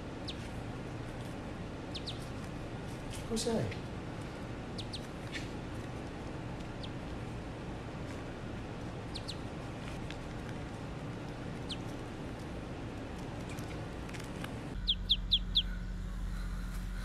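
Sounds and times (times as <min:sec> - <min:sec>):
ducklings peeping: 0:00.0 - 0:07.3, 0:08.0 - 0:17.0
steady background hiss: 0:00.0 - 0:17.0.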